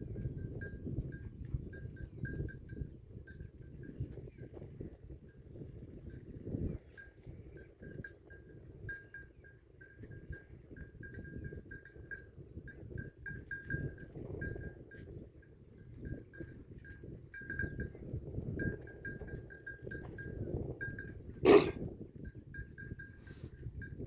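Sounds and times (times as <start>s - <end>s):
animal bells clinking: 0.0s - 24.0s.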